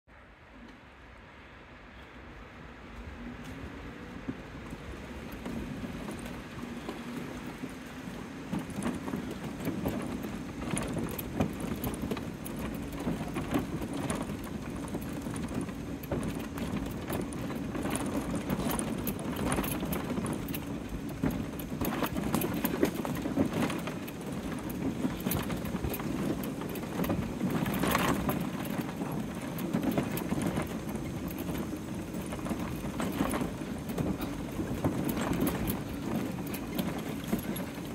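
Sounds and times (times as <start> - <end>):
electric scooter motor humming: 1.9 - 37.9
scooter rattling over bumpy ground: 2.9 - 37.9.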